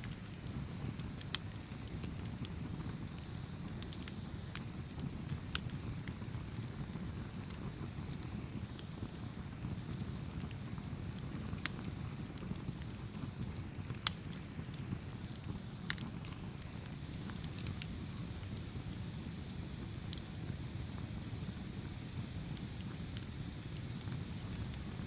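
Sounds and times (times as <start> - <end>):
fire crackles and pops: 0.0 - 25.0
wood fire rumbling: 0.0 - 25.0.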